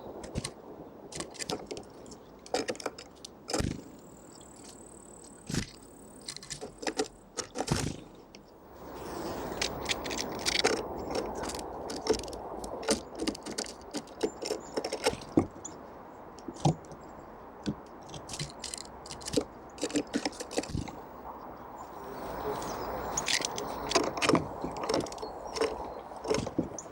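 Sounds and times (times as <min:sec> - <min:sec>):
birds pecking at seeds: 0:00.0 - 0:26.9.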